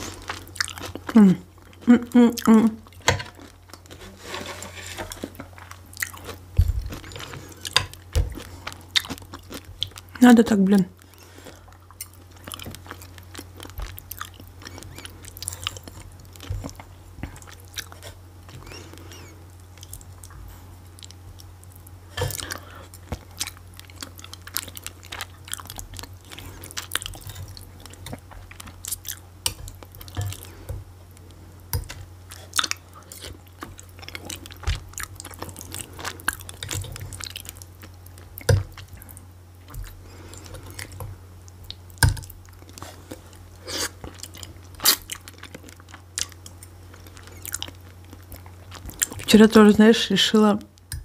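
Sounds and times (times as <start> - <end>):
person chewing: 0.0 - 10.2, 11.0 - 49.3.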